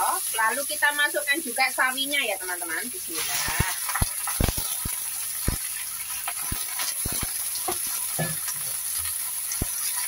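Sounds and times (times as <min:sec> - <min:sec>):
oil sizzling in a wok: 0:00.0 - 0:10.0.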